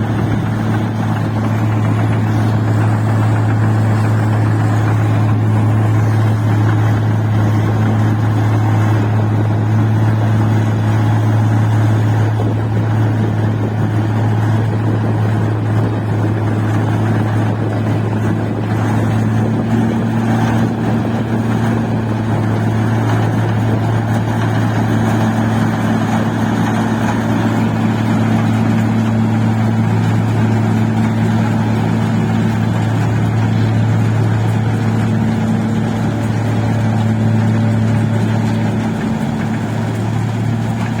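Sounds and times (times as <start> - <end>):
machine engine humming: 0.0 - 41.0.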